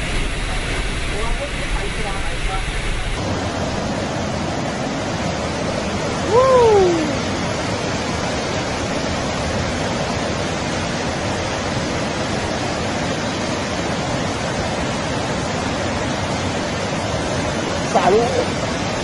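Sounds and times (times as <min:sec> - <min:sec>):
heavy rushing water: 0:00.0 - 0:19.0.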